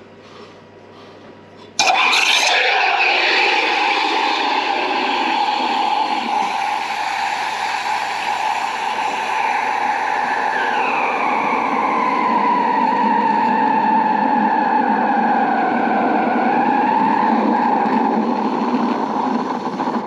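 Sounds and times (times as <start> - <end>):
steam wand steaming milk: 1.8 - 20.0.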